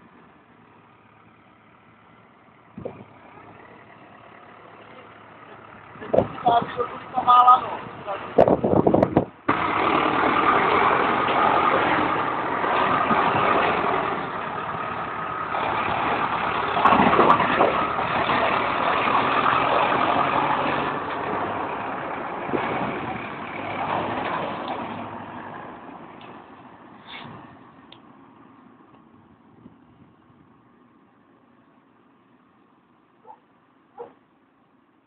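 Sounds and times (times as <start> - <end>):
tractor diesel engine driving off: 0.0 - 28.9.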